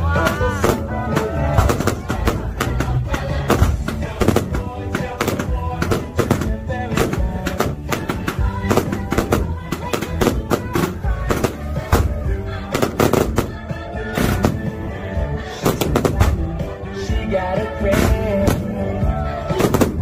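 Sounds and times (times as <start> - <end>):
fireworks bangs: 0.0 - 16.8, 17.7 - 20.0
loud music: 0.0 - 20.0.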